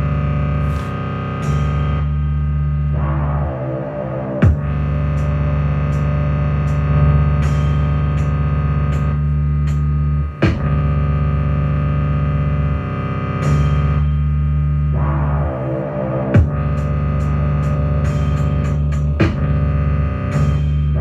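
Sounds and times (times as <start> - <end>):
electronic beat music: 0.0 - 21.0.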